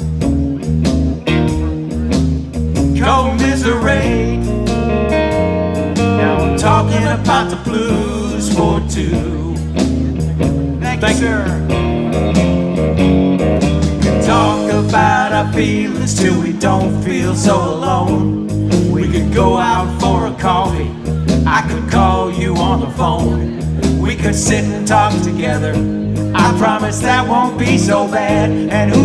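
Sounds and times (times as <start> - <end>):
electric guitars: 0.0 - 29.0
live blues-rock band: 0.0 - 29.0
low bass line: 0.0 - 29.0.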